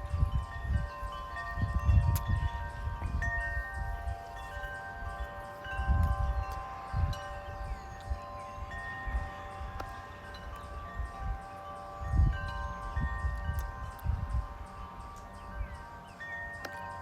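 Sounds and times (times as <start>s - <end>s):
wind chimes ringing: 0.0s - 17.0s
wind rumbling on microphone: 0.0s - 17.0s.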